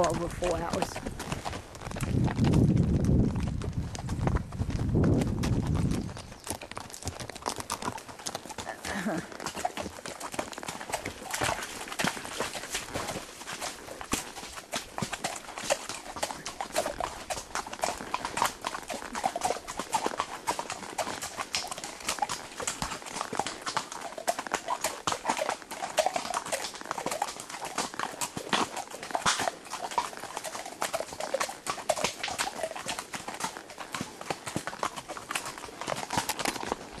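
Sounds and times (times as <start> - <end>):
horse hooves on stone: 0.0 - 37.0.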